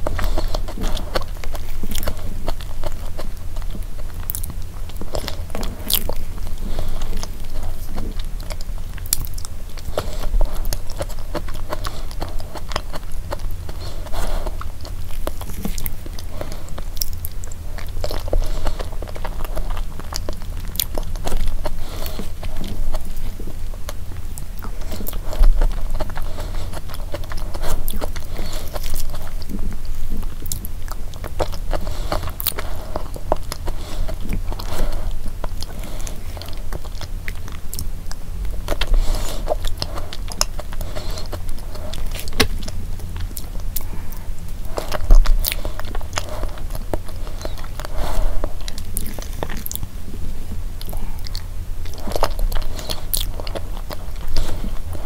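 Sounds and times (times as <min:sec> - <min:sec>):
chewing and mouth sounds: 0:00.0 - 0:55.0.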